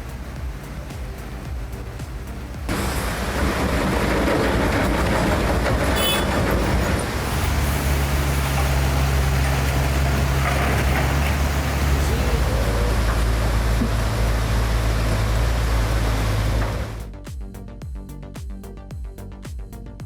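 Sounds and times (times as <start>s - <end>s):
heavy machine engine rumbling: 0.0s - 17.1s.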